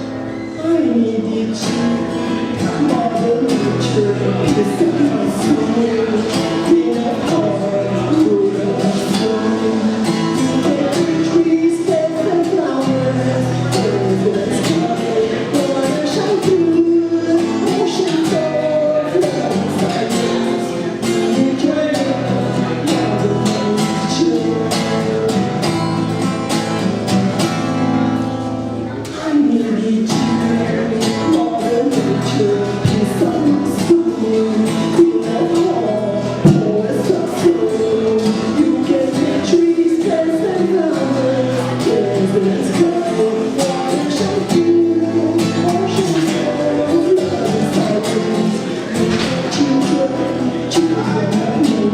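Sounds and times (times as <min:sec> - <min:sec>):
person singing: 0:00.0 - 0:26.2, 0:28.9 - 0:51.9
plucked string accompaniment: 0:00.0 - 0:51.9.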